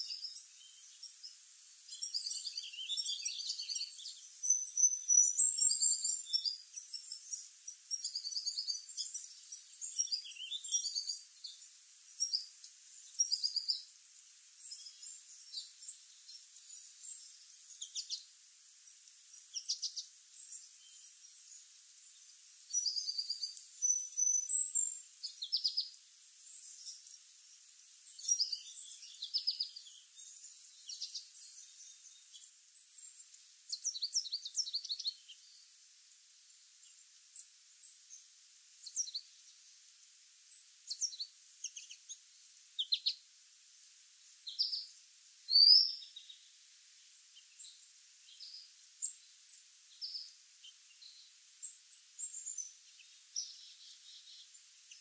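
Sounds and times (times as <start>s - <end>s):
faint steady hiss: 0.0s - 55.0s
small birds chirping: 0.0s - 55.0s.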